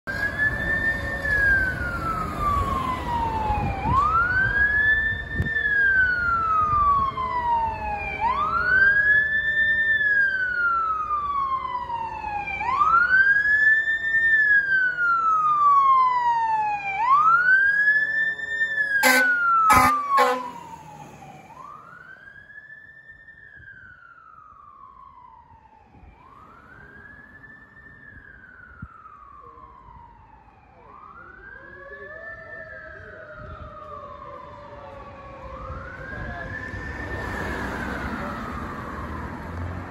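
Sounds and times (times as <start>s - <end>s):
fire engine siren wailing: 0.1s - 39.9s.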